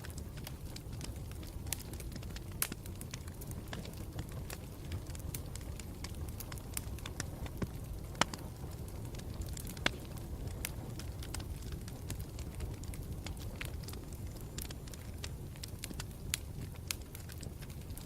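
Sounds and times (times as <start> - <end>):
campfire crackling and popping: 0.0 - 18.0
loud fire pops: 0.0 - 18.0.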